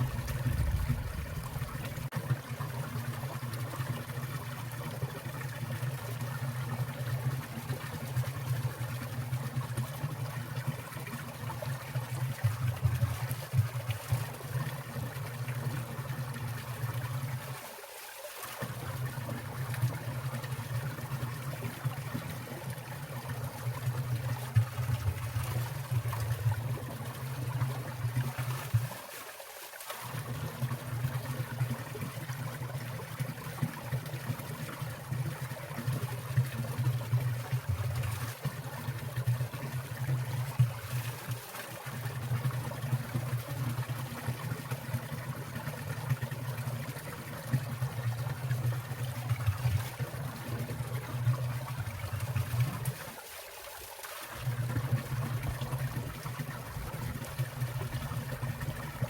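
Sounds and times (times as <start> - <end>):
stream water splashing: 0.0 - 59.0.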